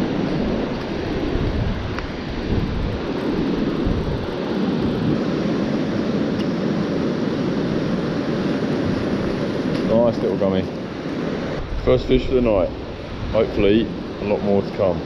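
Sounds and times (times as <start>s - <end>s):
beach surf washing: 0.0s - 15.0s
wind buffeting microphone: 0.0s - 15.0s.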